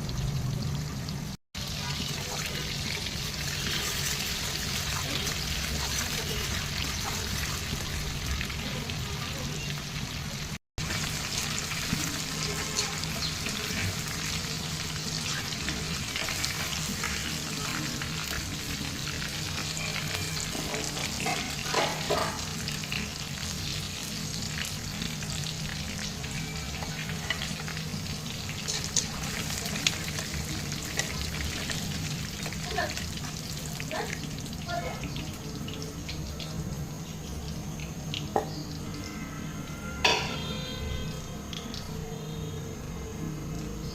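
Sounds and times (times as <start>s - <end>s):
chicken frying in hot oil: 0.0s - 43.9s.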